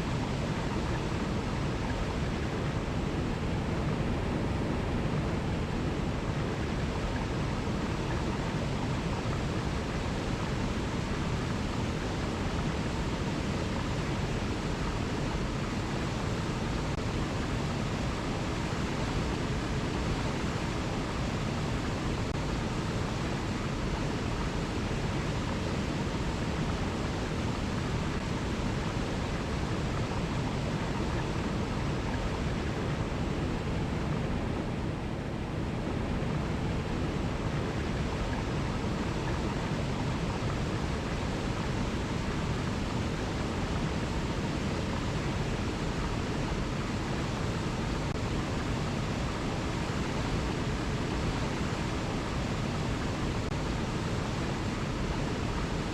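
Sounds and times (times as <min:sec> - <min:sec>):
river rushing over cascades: 0:00.0 - 0:55.9.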